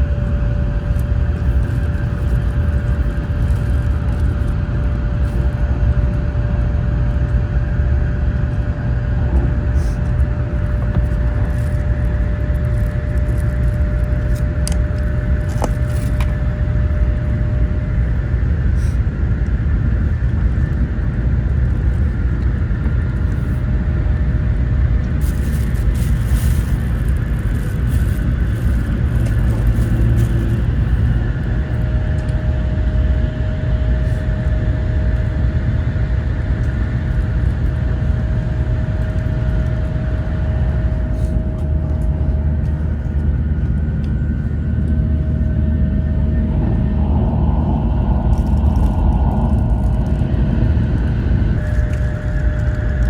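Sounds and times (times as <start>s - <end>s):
faint steady whine: 0.0s - 53.0s
train rumbling at speed: 0.0s - 53.0s.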